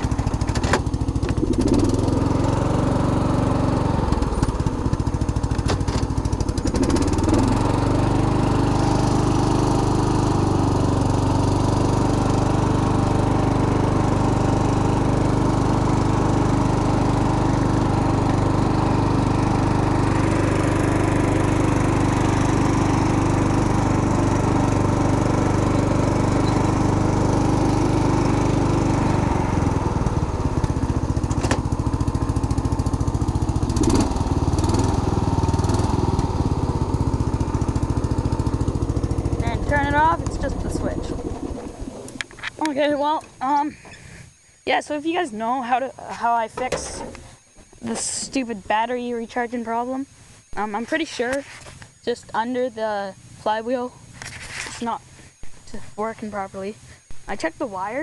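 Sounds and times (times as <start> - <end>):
lawn tractor engine running: 0.0 - 58.0.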